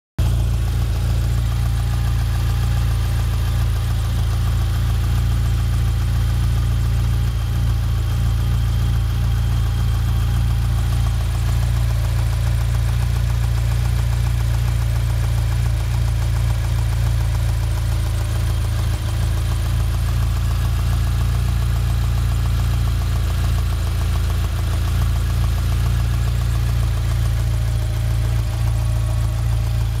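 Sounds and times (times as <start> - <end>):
car engine idling: 0.2 - 30.0.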